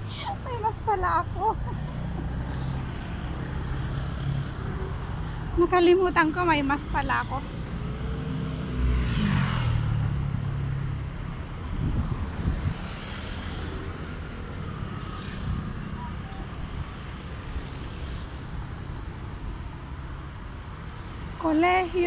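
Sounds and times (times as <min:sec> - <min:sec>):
vehicle passing: 0:00.0 - 0:19.3
steady traffic hum: 0:00.0 - 0:22.0.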